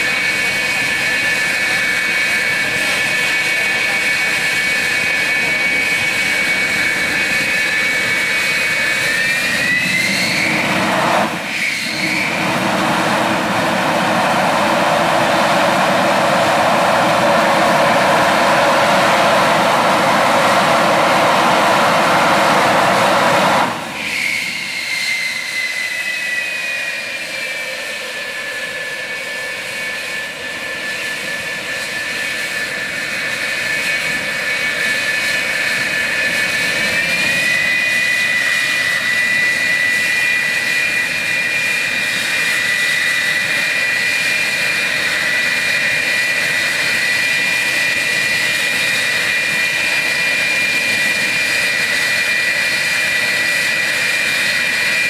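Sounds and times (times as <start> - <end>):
jet turbine whine: 0.0 - 55.0.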